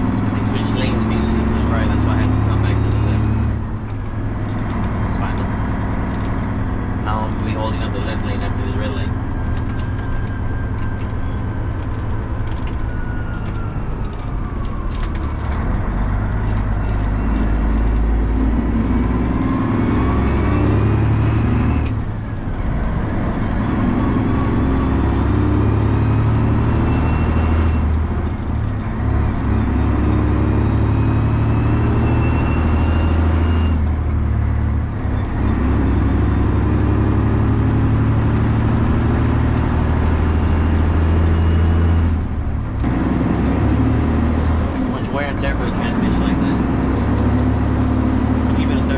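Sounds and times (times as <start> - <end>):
truck engine pulling through gears: 0.0 - 48.9.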